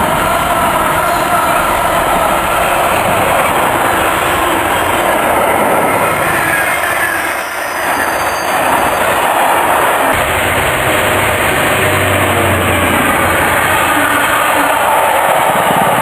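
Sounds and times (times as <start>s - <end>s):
freight wagons rolling on rails: 0.0s - 16.0s.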